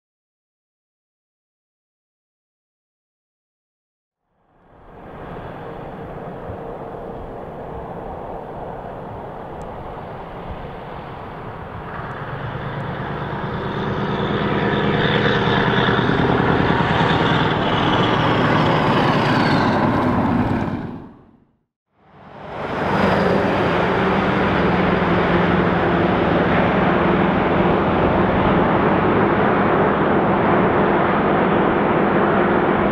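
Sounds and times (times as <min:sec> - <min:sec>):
truck engine passing: 0:04.5 - 0:32.9.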